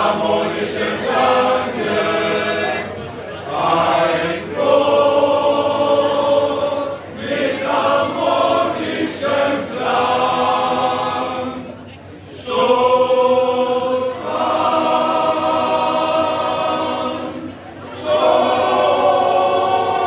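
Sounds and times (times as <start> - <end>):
men's choir singing: 0.0 - 11.8, 12.4 - 20.0.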